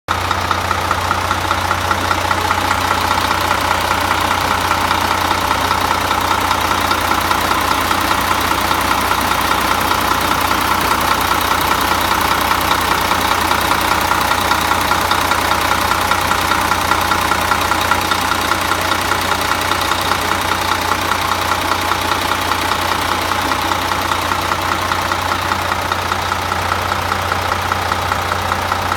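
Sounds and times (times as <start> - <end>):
diesel coach engine idling: 0.1 - 28.9.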